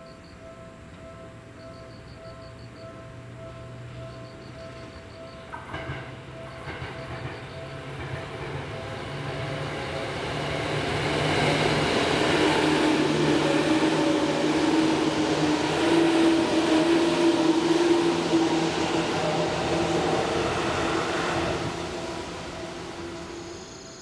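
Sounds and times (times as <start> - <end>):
train wheels on rails: 1.6 - 24.0.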